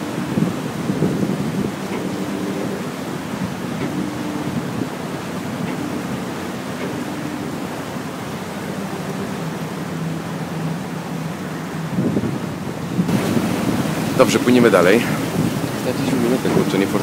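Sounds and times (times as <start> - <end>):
low ship engine hum: 0.0 - 17.0
water rushing along hull: 0.0 - 17.0
wind over microphone: 0.0 - 17.0.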